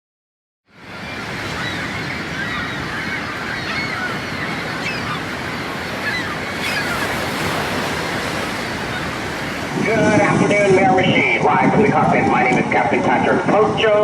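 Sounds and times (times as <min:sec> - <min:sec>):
wind on microphone: 0:00.9 - 0:14.0.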